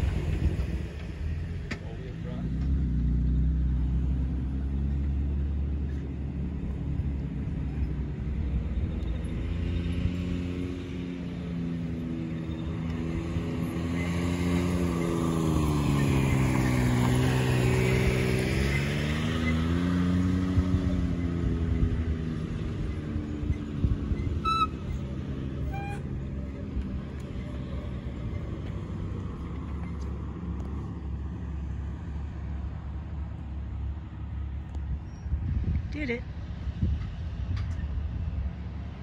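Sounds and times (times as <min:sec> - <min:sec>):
off-road vehicle engines running: 0:00.0 - 0:39.0.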